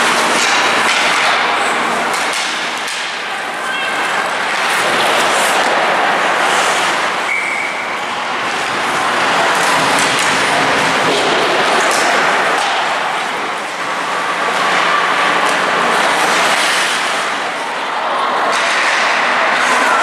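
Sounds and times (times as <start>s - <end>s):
arena crowd noise: 0.0s - 20.0s
hockey sticks and puck clacking: 0.0s - 20.0s.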